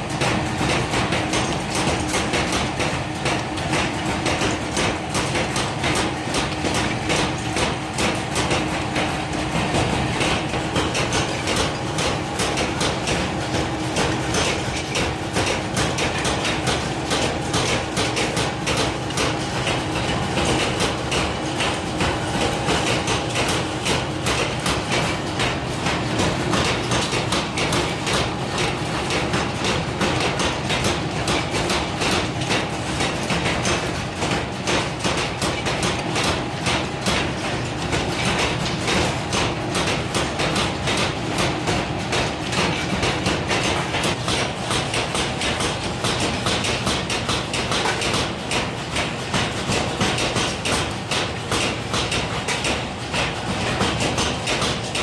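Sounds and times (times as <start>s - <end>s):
metal knocks and clatter: 0.0s - 55.0s.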